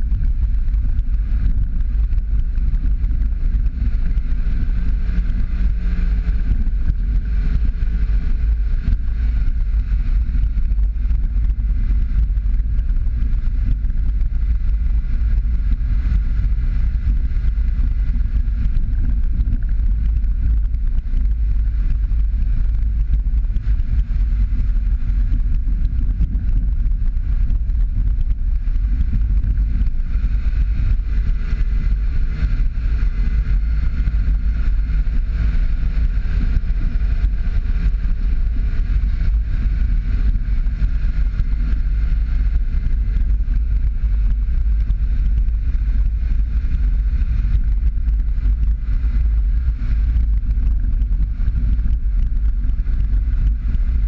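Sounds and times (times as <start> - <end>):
car driving on gravel: 0.0 - 54.0
wind on microphone: 0.0 - 54.0.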